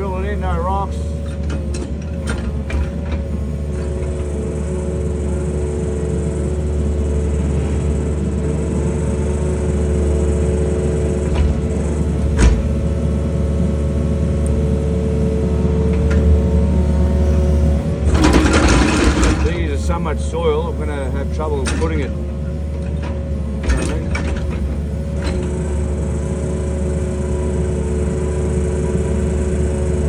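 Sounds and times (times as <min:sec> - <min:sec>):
diesel engine under load: 0:00.0 - 0:30.0
hydraulic whine: 0:00.0 - 0:30.0.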